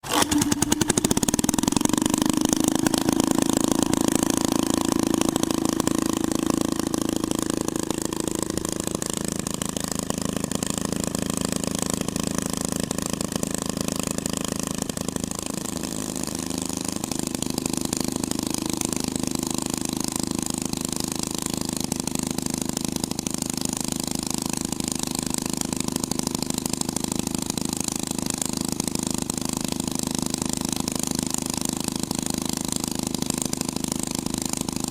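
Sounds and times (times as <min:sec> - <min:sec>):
hot rod engine running: 0:00.0 - 0:34.9.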